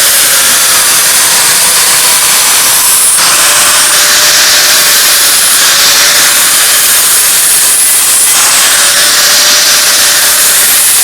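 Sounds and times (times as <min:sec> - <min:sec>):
grinder grinding steel: 0:00.0 - 0:11.0.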